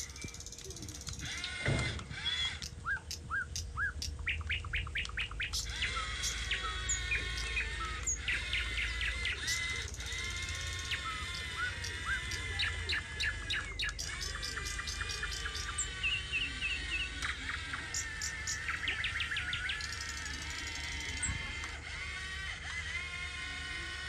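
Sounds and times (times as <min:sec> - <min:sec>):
birds chirping: 0:00.0 - 0:24.0
steady low hum: 0:00.0 - 0:24.0.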